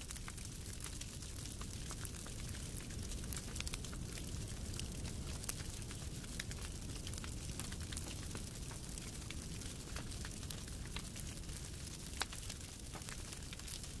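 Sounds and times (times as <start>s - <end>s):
low rumble of burning logs: 0.0s - 14.0s
wood fire crackling and popping: 0.0s - 14.0s.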